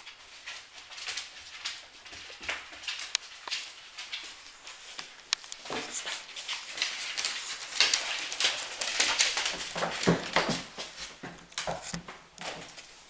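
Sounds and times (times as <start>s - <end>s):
puppy and cat scuffling: 0.0s - 13.0s
scratchy rustles and taps on wood: 0.1s - 12.9s.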